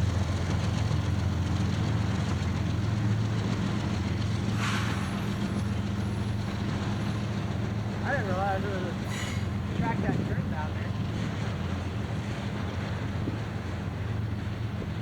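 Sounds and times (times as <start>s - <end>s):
diesel locomotive engine humming: 0.0s - 15.0s.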